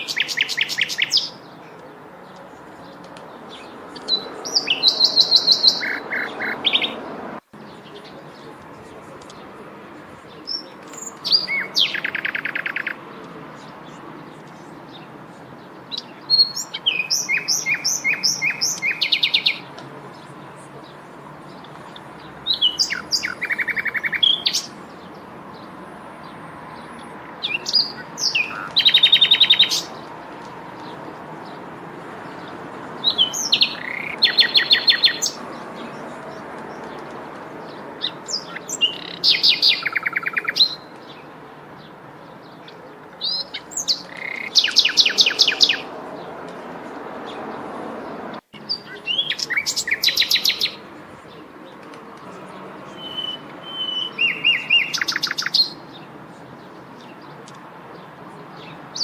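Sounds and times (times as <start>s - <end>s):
songbird singing with trill: 0.0s - 47.6s, 48.5s - 59.0s.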